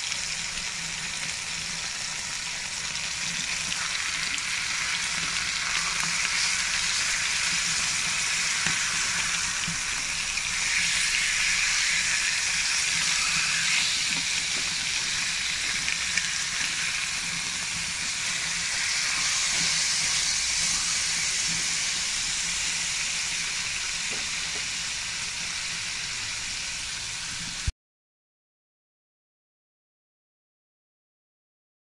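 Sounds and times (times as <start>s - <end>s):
meat sizzling in a frying pan: 0.0s - 27.7s.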